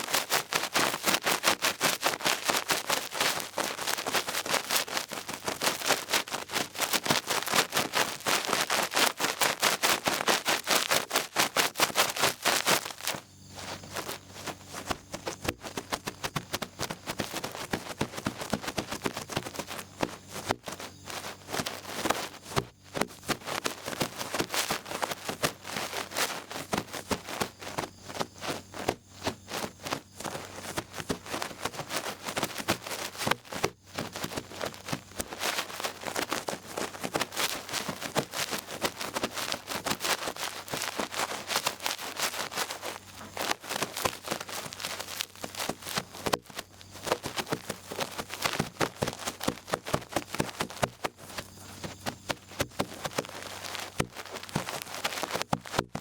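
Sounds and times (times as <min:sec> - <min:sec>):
cotton swab scratching in ear: 0:00.0 - 0:56.0.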